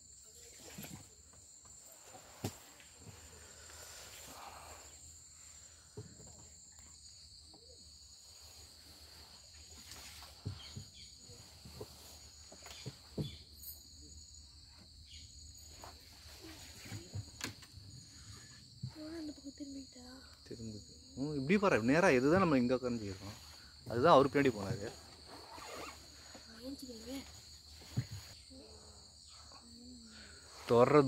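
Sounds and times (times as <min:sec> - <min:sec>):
insects high-pitched drone: 0:00.0 - 0:31.0
pulsing insect chirp: 0:00.0 - 0:31.0.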